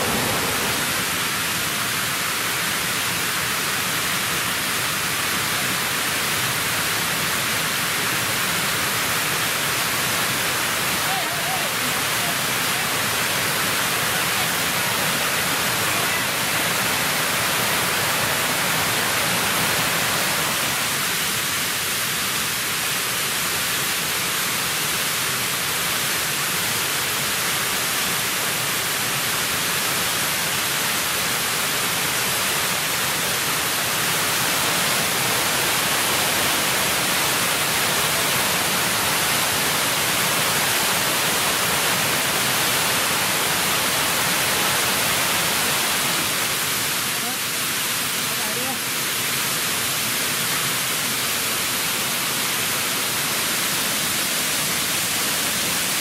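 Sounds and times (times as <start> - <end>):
water rushing down cascades: 0.0 - 56.0.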